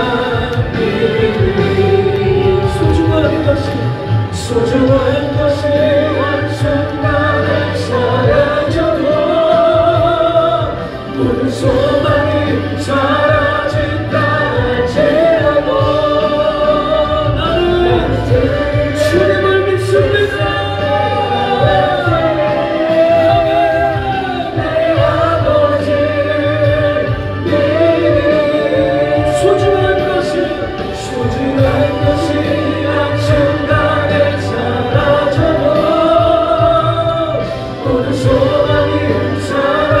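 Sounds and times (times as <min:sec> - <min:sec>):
hymn-like singing with backing: 0:00.0 - 0:40.0.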